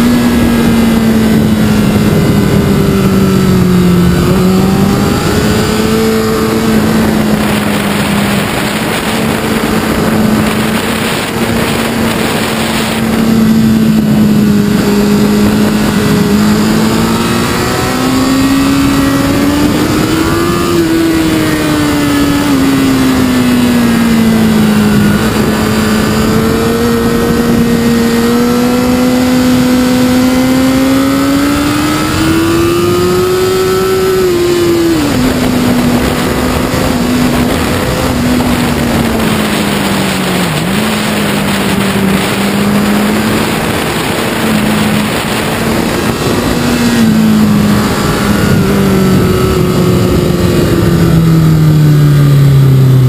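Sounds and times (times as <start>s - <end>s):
motorcycle engine revving: 0.0s - 53.0s
wind noise on microphone: 0.0s - 53.0s.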